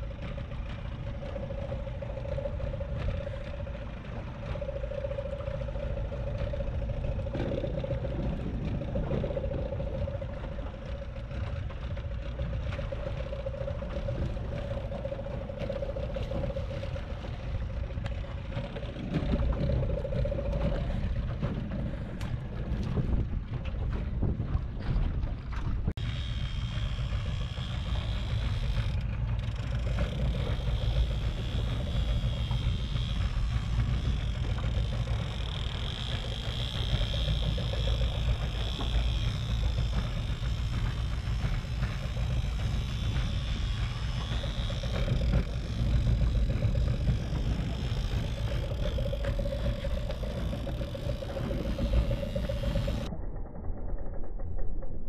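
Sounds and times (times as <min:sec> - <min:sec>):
small outboard motor running: 0:00.0 - 0:54.9
wind rumble on microphone: 0:00.0 - 0:55.0.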